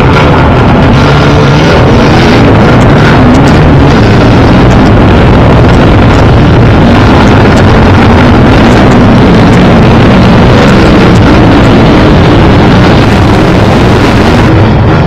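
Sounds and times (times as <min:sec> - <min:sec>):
motorcycle engines running hard: 0:00.0 - 0:15.0.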